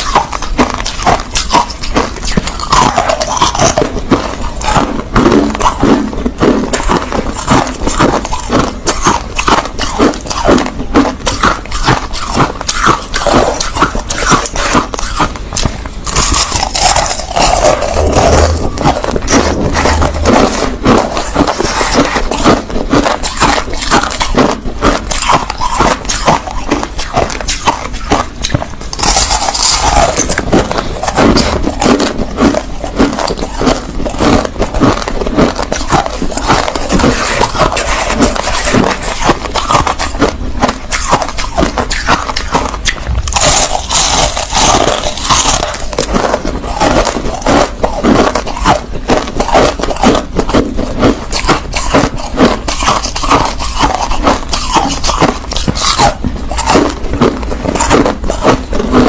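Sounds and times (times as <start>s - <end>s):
chewing crushed ice: 0.0s - 59.0s.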